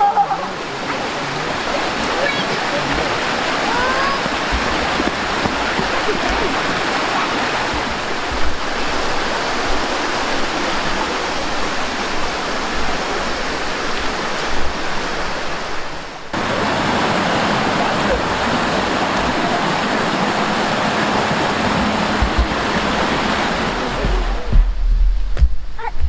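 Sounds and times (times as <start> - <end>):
stream rushing over stones: 0.0 - 26.0.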